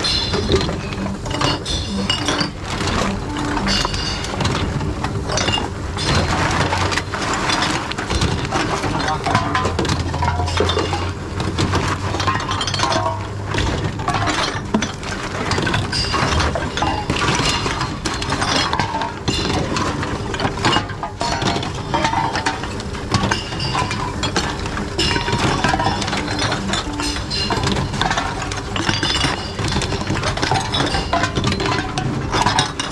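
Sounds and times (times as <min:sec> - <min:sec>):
bottles and cans clinking: 0:00.0 - 0:32.9
vending machine mechanism running: 0:00.0 - 0:32.9.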